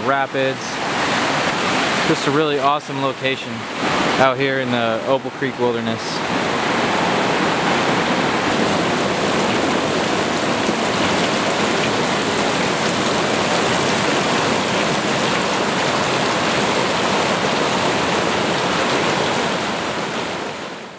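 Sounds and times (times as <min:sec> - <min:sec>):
rushing splashing water: 0:00.0 - 0:20.9.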